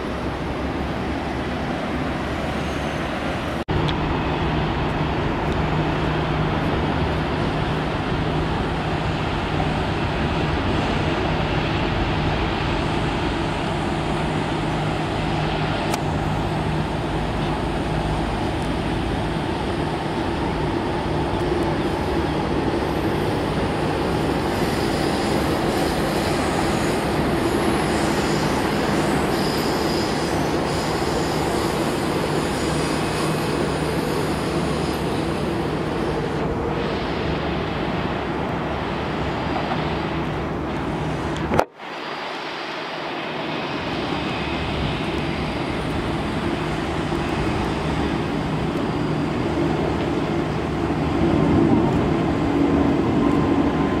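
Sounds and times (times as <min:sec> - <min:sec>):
jet airliner engines humming: 0:00.0 - 0:54.0
jet engines climbing after takeoff: 0:00.0 - 0:54.0.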